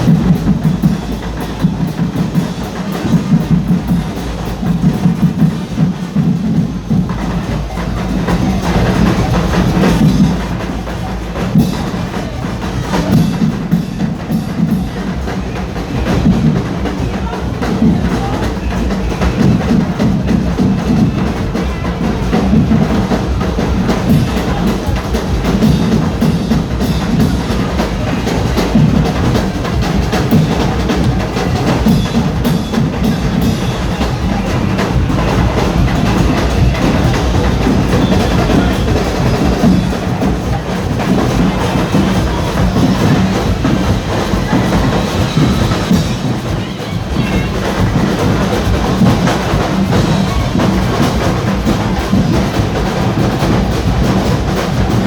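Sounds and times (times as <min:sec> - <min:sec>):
drums beating driving rhythm: 0:00.0 - 0:55.0
wood-block clacks: 0:00.0 - 0:55.0.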